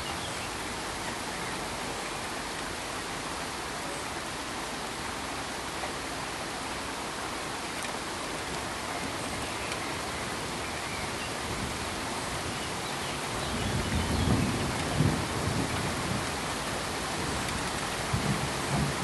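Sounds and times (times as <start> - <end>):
pink noise hiss: 0.0 - 19.0.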